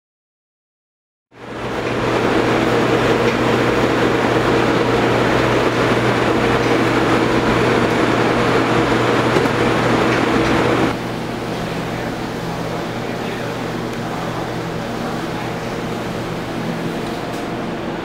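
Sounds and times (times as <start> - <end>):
kitchen equipment roar and hum: 1.3 - 18.0.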